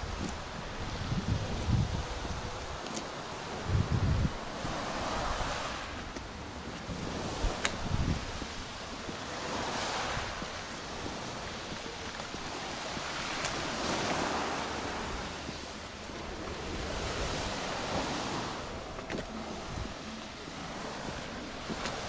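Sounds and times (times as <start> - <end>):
sea waves washing in: 0.0 - 22.0
wind on microphone: 0.0 - 22.0.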